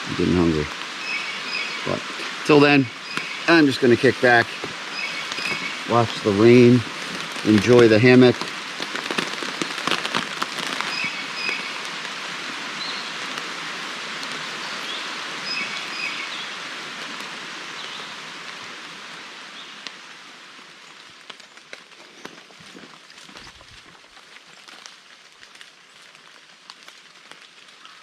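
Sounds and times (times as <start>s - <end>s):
rain falling on a tarp: 0.0s - 28.0s.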